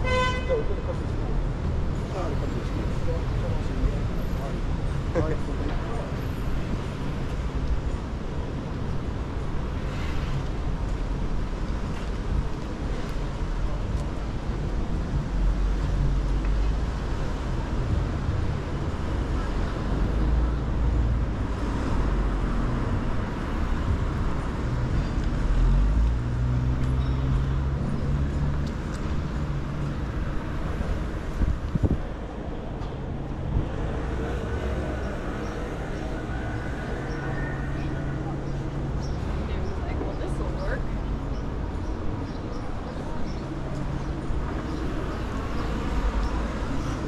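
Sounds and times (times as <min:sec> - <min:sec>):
city traffic rumble: 0:00.0 - 0:47.0.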